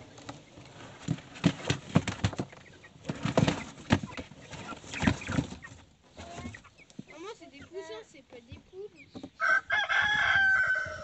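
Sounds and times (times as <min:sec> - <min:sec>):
chickens scratching in cardboard box: 0:00.0 - 0:11.0.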